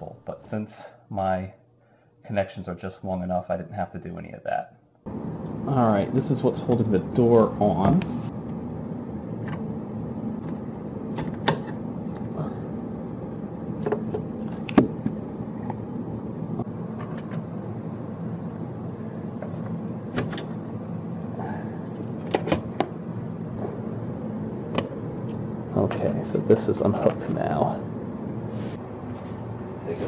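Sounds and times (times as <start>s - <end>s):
steady low noise: 2.3s - 30.0s.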